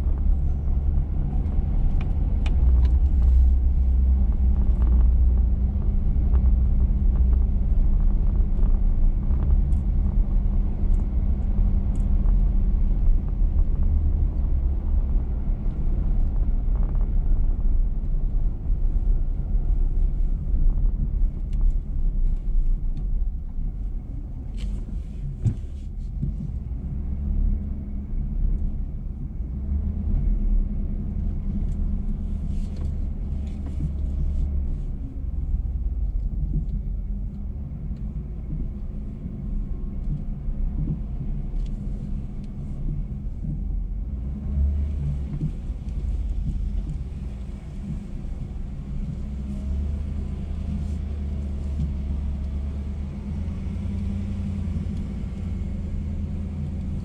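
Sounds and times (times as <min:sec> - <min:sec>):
pickup engine and tyres rumbling: 0:00.0 - 0:57.0.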